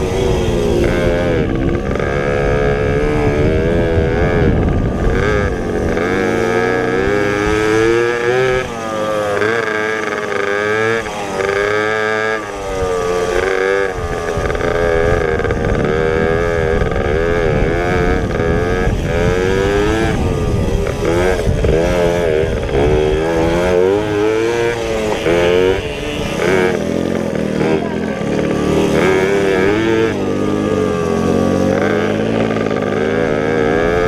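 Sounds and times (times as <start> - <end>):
pit bike engine revving: 0.0 - 34.0.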